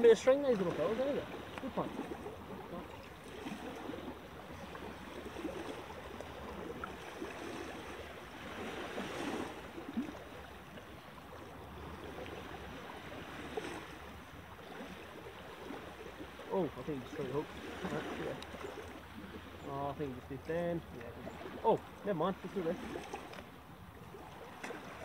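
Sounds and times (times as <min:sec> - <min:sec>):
small waves lapping on rocks: 0:00.0 - 0:25.0.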